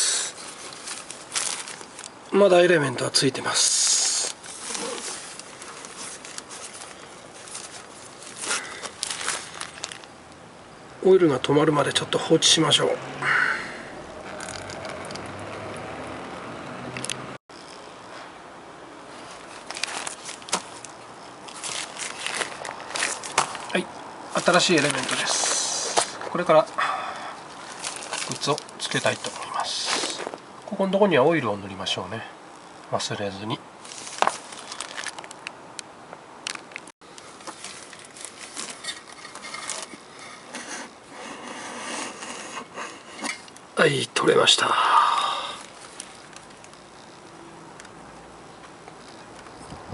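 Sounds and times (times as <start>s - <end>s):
steady background noise: 0.0s - 49.9s.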